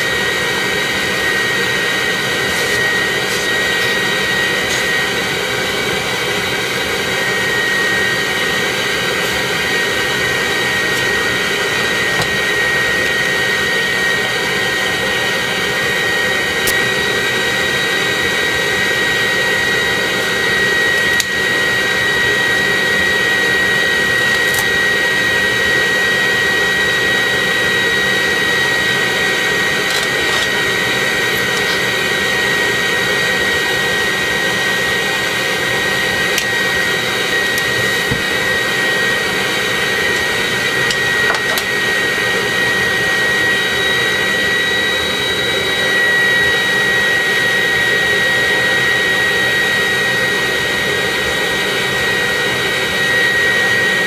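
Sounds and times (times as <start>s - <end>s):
vacuum suction with high whine: 0.0s - 54.0s.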